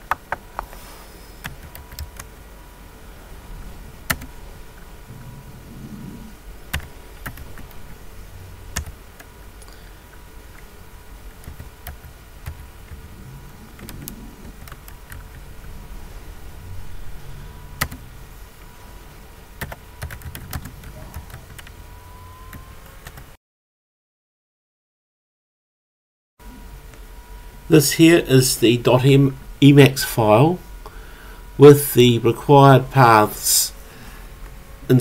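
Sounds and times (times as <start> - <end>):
low steady background hum: 0.0 - 23.4, 26.4 - 35.0.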